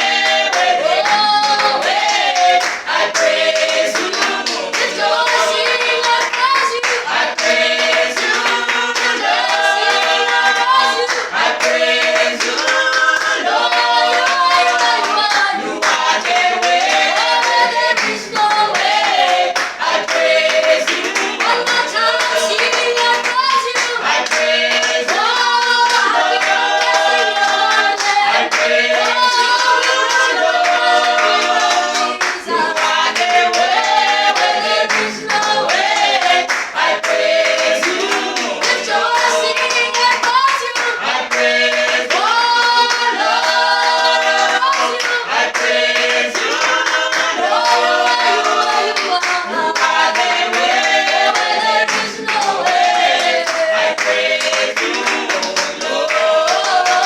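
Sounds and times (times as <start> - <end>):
group singing gospel song: 0.0 - 57.0
hand clapping: 0.0 - 57.0.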